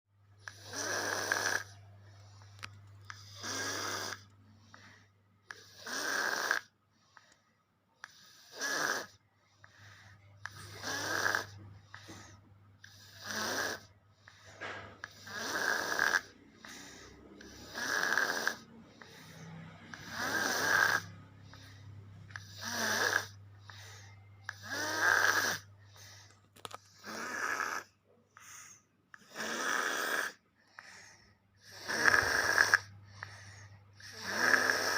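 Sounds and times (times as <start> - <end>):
baby snoring: 0.4 - 7.4, 8.0 - 34.9.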